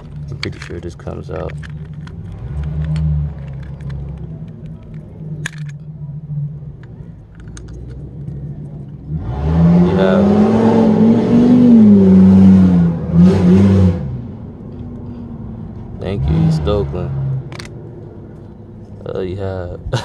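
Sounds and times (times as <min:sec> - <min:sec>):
car engine revving: 0:00.0 - 0:19.7
low engine hum: 0:00.0 - 0:20.0.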